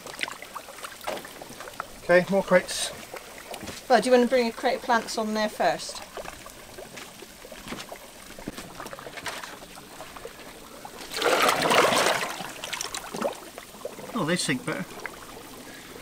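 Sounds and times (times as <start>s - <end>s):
crates splashing in water: 0.0s - 14.8s.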